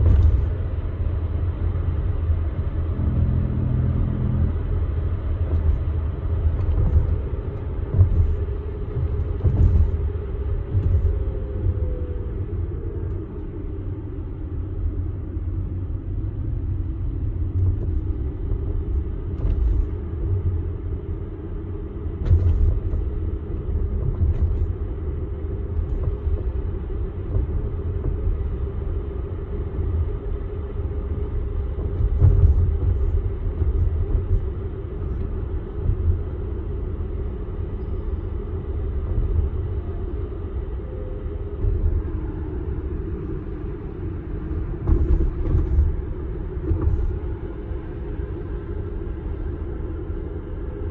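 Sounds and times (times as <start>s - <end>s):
tyre and road rumble: 0.0s - 49.4s.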